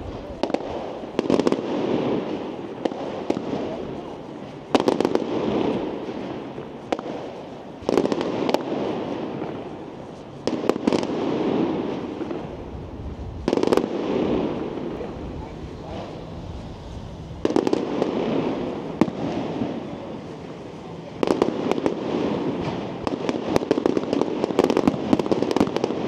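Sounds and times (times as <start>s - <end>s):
fireworks bursting with sharp bangs: 0.0s - 26.0s
fireworks rumbling echo and crackle: 0.0s - 26.0s.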